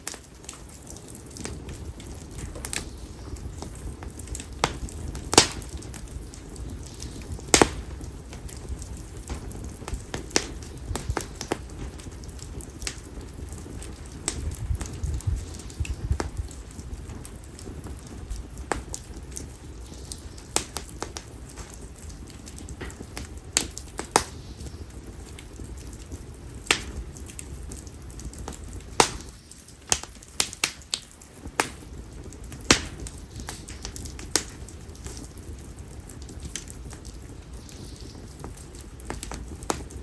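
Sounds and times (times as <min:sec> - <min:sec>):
firewood crackling and popping: 0:00.0 - 0:40.0
low rush of flame: 0:00.0 - 0:40.0.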